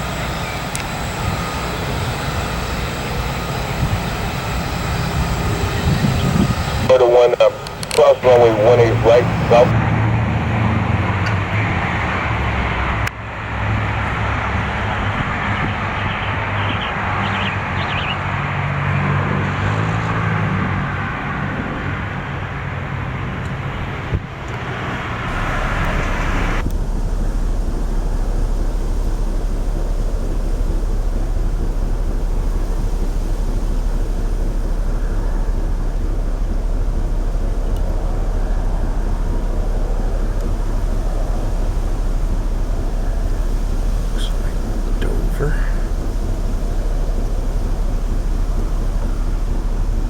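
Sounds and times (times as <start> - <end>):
low rumble: 0.0 - 17.8, 22.0 - 50.0
aircraft engine rushing: 0.0 - 50.0.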